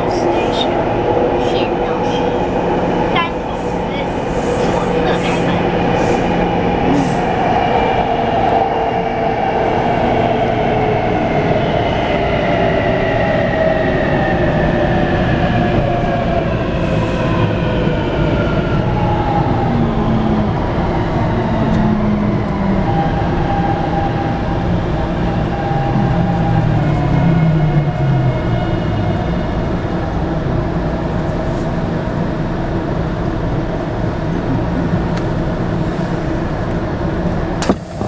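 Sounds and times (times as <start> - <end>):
wheels rumbling on rail: 0.0 - 38.0.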